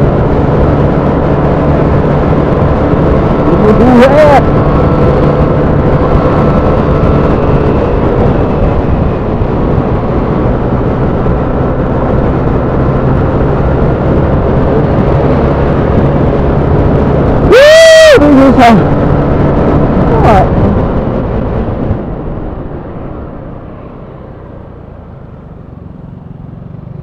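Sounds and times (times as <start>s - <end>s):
scooter engine hum: 0.0s - 27.0s
wind noise on microphone: 0.0s - 27.0s.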